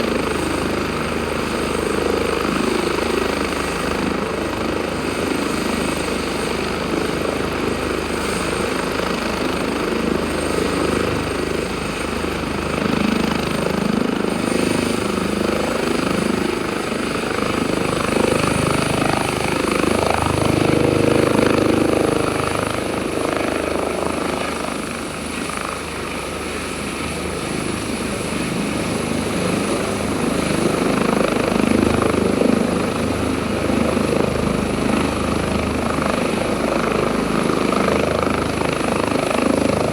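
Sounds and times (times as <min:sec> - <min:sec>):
helicopter rotor and turbine roar: 0:00.0 - 0:39.9
high turbine whine: 0:00.0 - 0:39.9.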